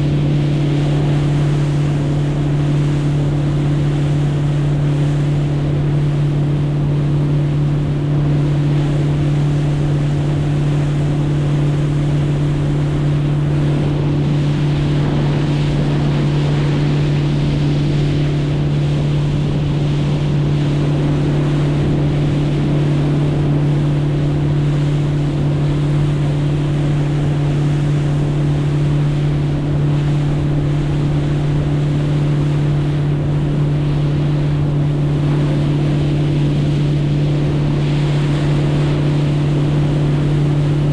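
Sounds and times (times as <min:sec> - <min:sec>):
boat motor droning: 0:00.0 - 0:40.9
water noise: 0:00.0 - 0:40.9
wind: 0:00.0 - 0:40.9.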